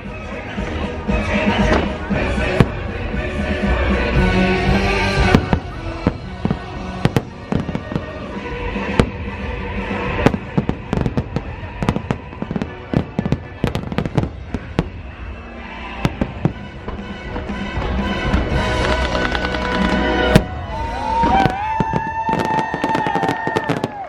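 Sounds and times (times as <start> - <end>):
fireworks bangs and crackles: 0.0 - 24.0
music soundtrack: 0.0 - 24.0.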